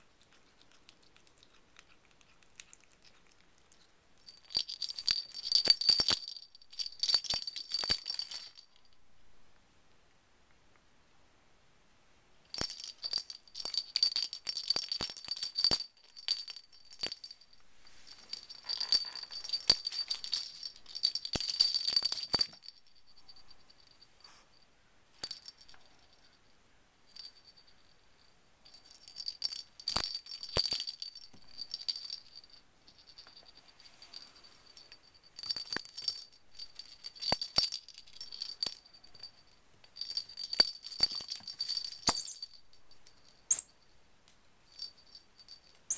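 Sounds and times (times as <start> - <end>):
small bell jingling and rattling: 0.4 - 9.0, 12.5 - 26.5, 27.1 - 44.0, 44.6 - 45.9.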